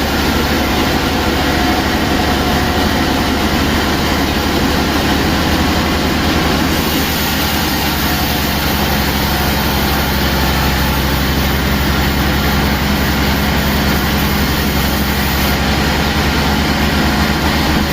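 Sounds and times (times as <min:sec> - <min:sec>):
sawmill machinery drone: 0:00.0 - 0:17.9.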